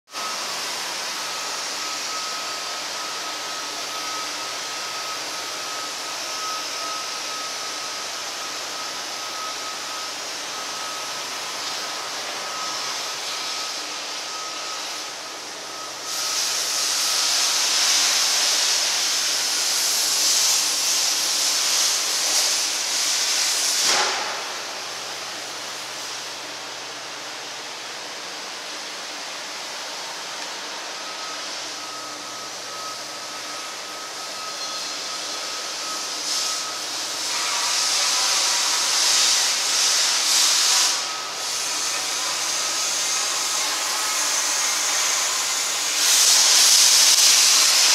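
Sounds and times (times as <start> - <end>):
faint high whine: 0.1 - 47.9
steady hissing noise: 0.2 - 47.9.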